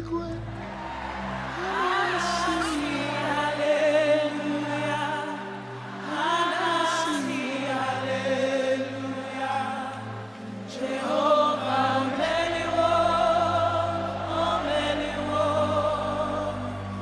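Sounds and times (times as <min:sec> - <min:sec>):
voices singing gospel song: 0:00.5 - 0:17.0.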